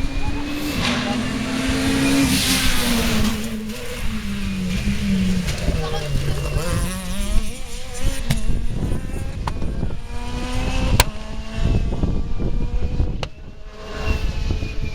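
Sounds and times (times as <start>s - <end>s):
rally car engine revving: 0.0s - 14.9s.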